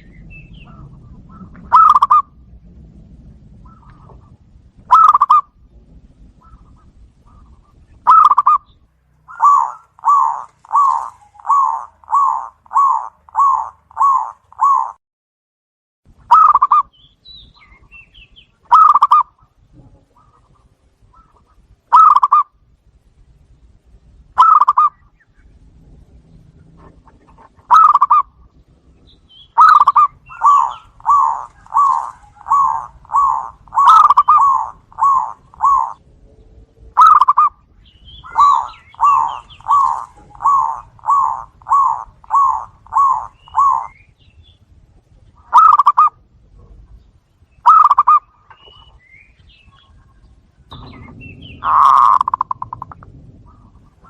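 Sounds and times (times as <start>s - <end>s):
doves cooing: 0.0s - 2.5s, 3.5s - 15.0s, 16.3s - 16.9s, 18.6s - 22.6s, 24.4s - 44.2s, 45.2s - 47.0s, 47.6s - 54.0s.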